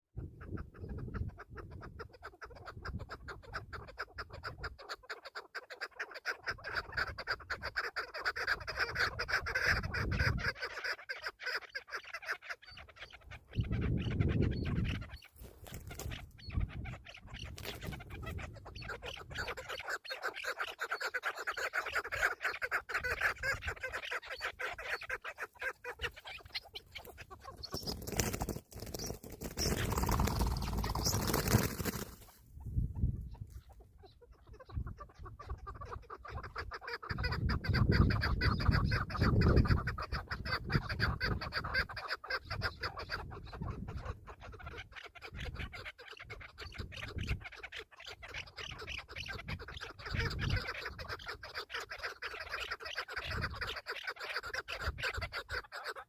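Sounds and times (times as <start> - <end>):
partridges calling: 0.2 - 56.0.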